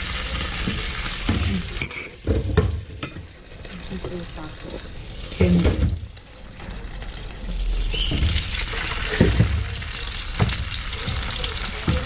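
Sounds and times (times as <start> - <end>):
hot oil sizzling in pan: 0.0 - 12.0.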